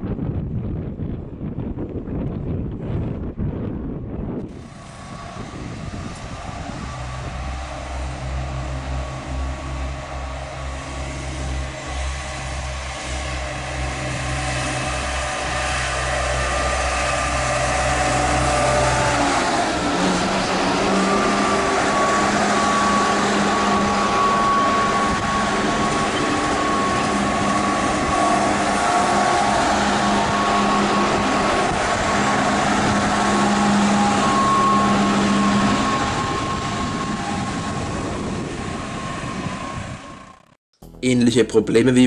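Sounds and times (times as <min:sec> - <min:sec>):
diesel train engine running: 0:04.4 - 0:41.7.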